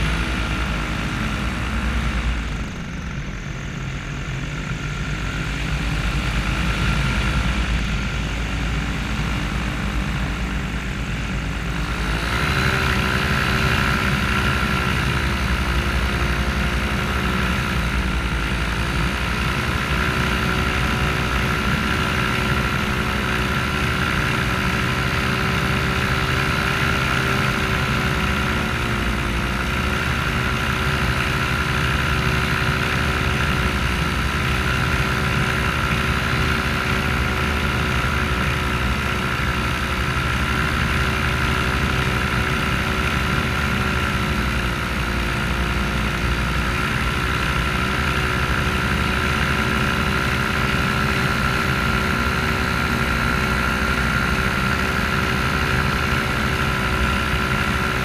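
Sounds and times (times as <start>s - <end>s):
paramotor engine and propeller: 0.0s - 58.0s.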